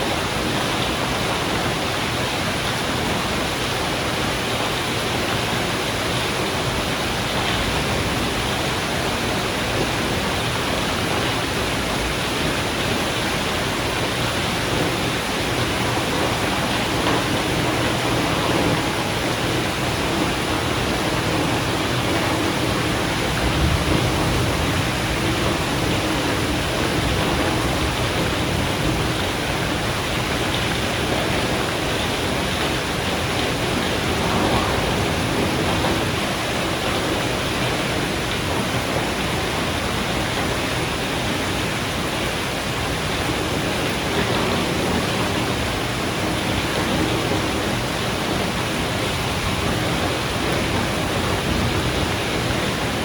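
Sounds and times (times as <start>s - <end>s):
steady rain hissing: 0.0s - 53.0s
thunder rumbling: 5.4s - 42.0s, 42.7s - 53.0s.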